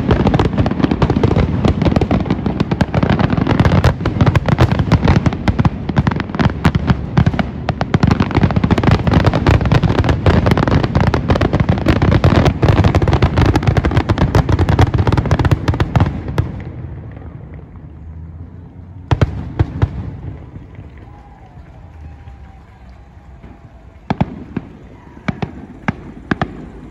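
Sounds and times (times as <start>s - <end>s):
fireworks bursting: 0.0s - 26.9s.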